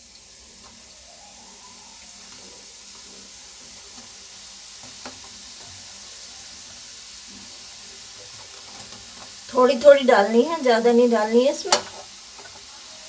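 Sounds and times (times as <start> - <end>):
peanuts deep-frying in oil: 0.0 - 13.0.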